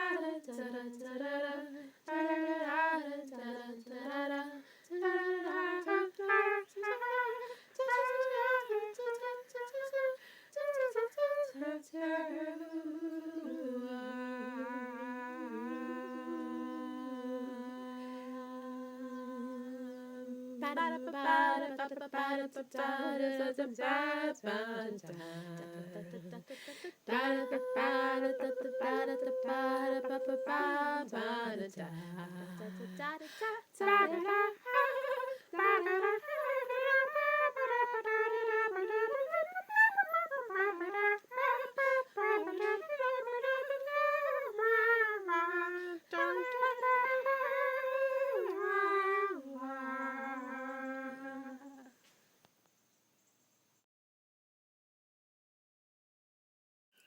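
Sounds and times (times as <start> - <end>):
person humming and singing: 0.0 - 52.0.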